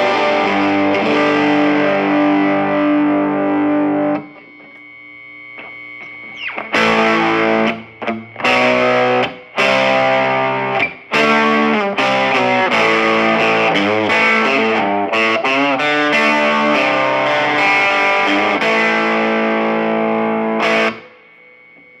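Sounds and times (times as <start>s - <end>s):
distorted electric guitar: 0.0s - 22.0s
faint amp noise: 0.0s - 22.0s.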